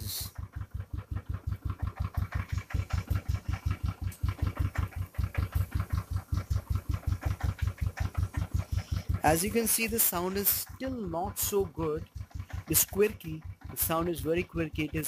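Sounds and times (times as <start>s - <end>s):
motorcycle engine idling roughly: 0.0s - 15.0s.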